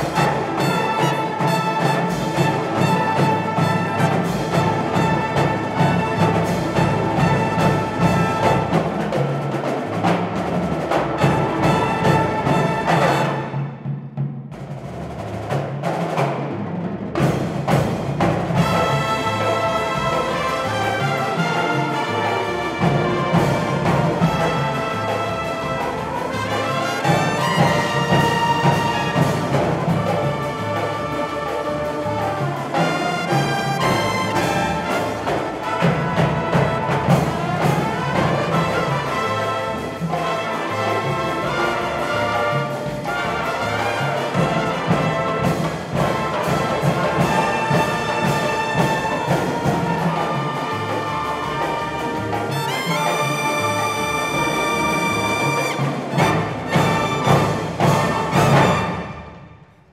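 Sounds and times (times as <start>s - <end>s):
brass band playing: 0.0s - 59.9s
drums keeping time: 0.0s - 59.9s.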